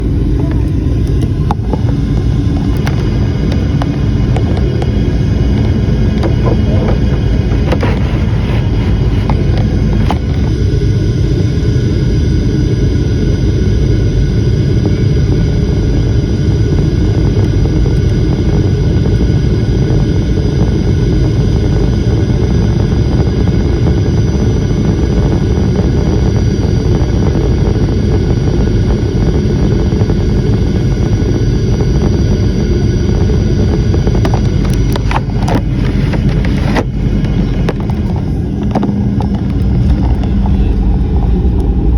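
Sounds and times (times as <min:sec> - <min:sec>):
faint steady whine: 0:00.0 - 0:41.9
jet engines rumbling: 0:00.0 - 0:41.9.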